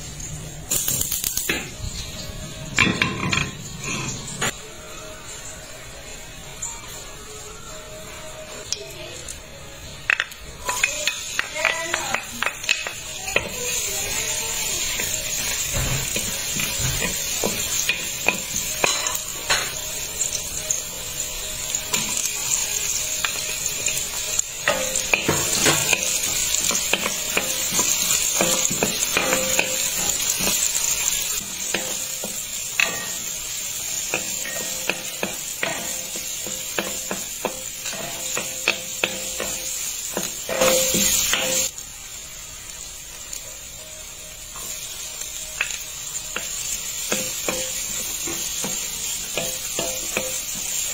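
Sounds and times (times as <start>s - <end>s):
garlic and onion sizzling in pan: 0.0s - 50.9s.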